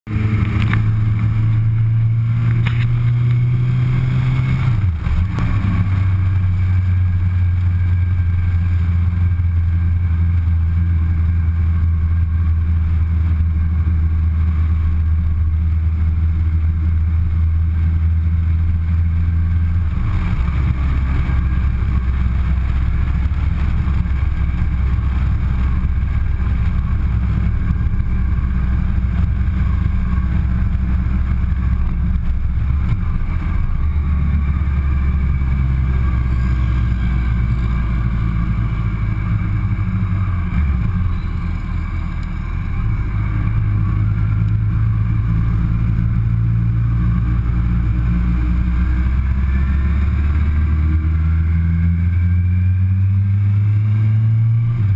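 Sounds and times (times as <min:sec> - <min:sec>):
motorcycle engine running: 0:00.1 - 0:54.9.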